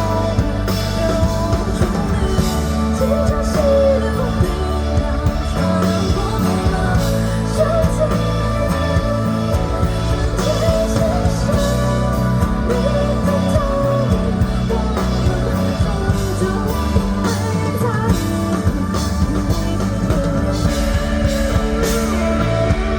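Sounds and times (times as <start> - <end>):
rock band playing: 0.0 - 22.9
woman singing: 0.0 - 22.9.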